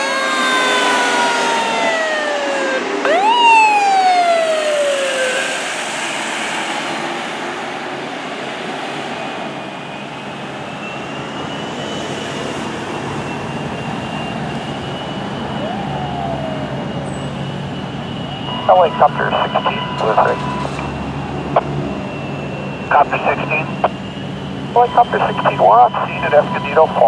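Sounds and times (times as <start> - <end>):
fire engine siren: 0.0 - 8.4, 9.6 - 27.0
traffic and engine noise: 0.0 - 27.0.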